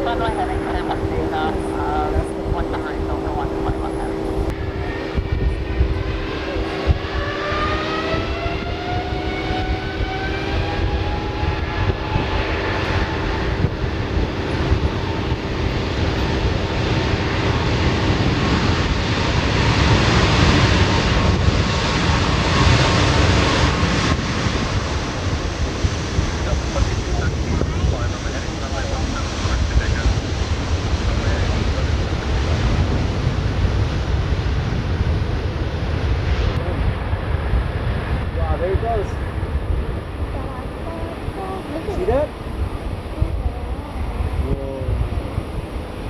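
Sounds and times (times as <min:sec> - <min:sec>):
jet engines spooling up: 0:00.0 - 0:46.0.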